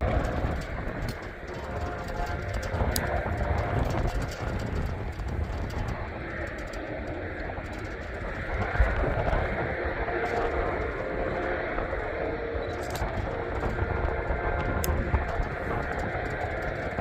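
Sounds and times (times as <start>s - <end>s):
freight train rumble and clatter: 0.0s - 17.0s.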